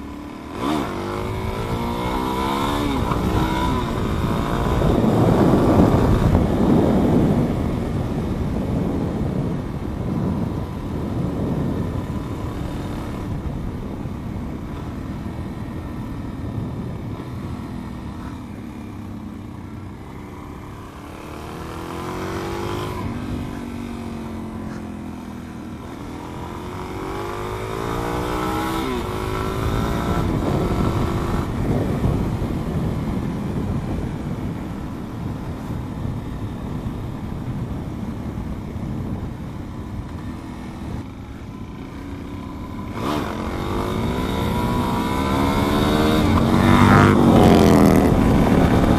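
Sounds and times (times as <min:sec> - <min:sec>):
motorcycle engine accelerating: 0:00.0 - 0:48.9
wind rushing over microphone: 0:00.0 - 0:48.9.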